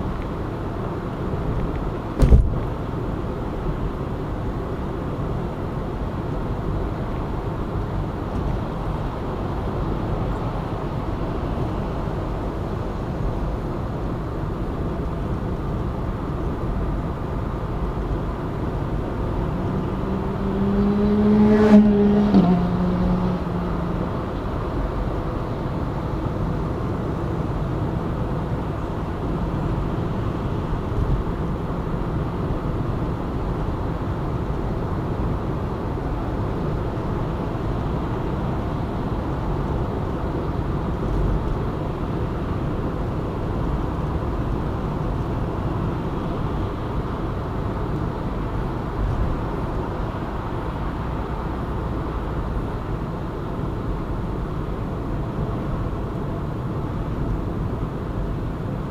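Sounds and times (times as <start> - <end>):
car road noise: 0.0 - 58.9.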